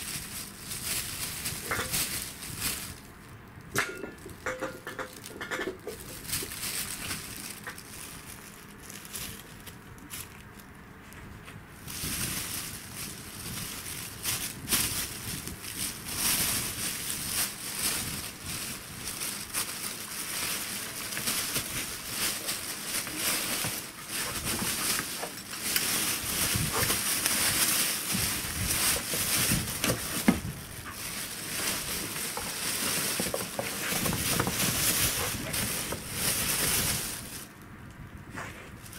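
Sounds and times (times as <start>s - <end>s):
plastic bags crinkling: 0.0s - 37.6s.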